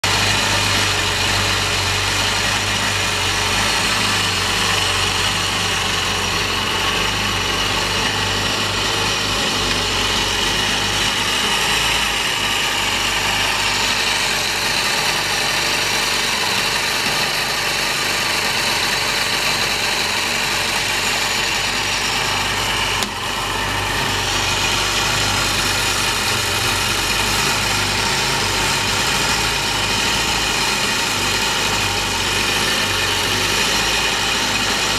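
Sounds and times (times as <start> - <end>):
small engine idling: 0.0 - 34.9.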